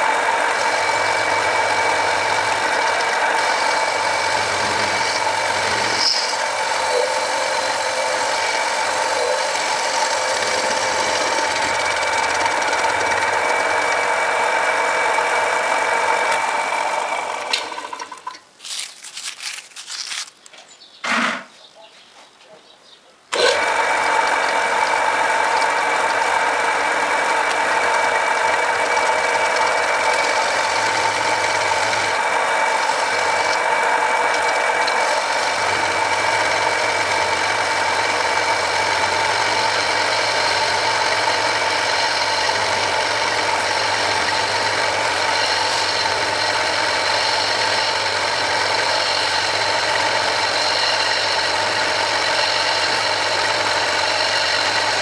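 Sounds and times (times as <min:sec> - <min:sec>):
lathe motor whining: 0:00.0 - 0:18.4, 0:23.3 - 0:55.0.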